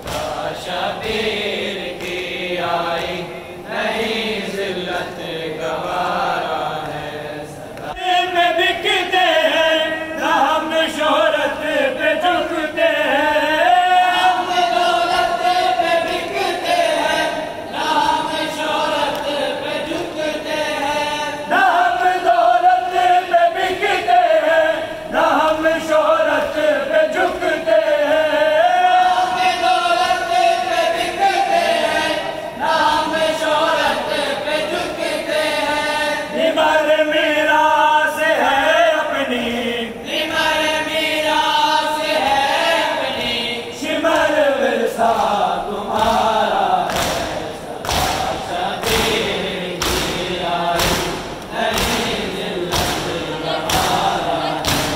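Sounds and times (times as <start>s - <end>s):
voices chanting a mourning lament: 0.0s - 54.9s.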